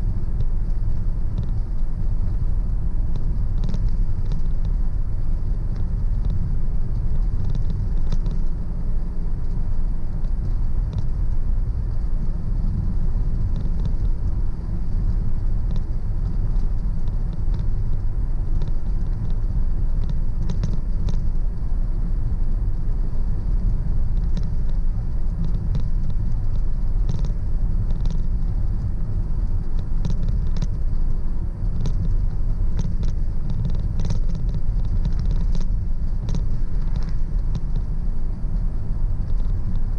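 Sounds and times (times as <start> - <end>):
car engine and tyres rumbling: 0.0 - 39.9
light ticks and rattles: 0.0 - 39.9.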